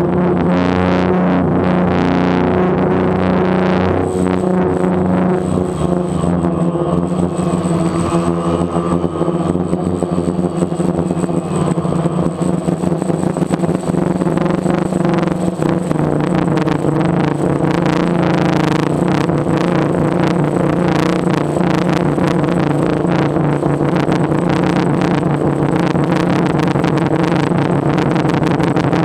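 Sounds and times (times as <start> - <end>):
drone propellers humming: 0.0 - 29.0
high whine: 0.0 - 29.0
wind buffeting microphone: 0.0 - 29.0.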